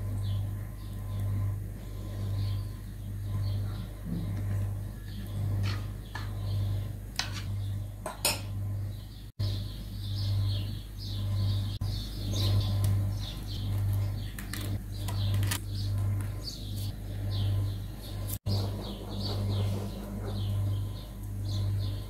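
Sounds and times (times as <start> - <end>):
birds chirping: 0.0 - 22.0
steady low hum: 0.0 - 22.0.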